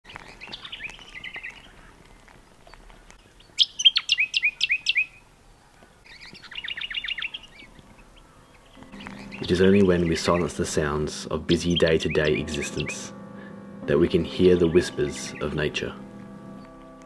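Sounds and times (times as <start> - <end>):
songbird trilling: 0.1 - 1.9, 3.4 - 5.2, 6.0 - 13.1, 13.8 - 16.8.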